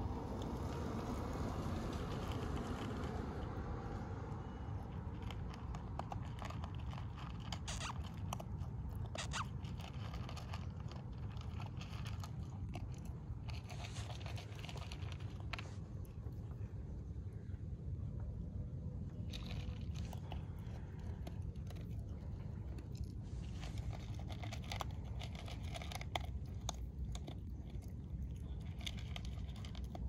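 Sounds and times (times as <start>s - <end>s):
puppy crunching kibble: 0.0s - 17.6s, 18.9s - 30.0s
steady low rumble: 0.0s - 30.0s.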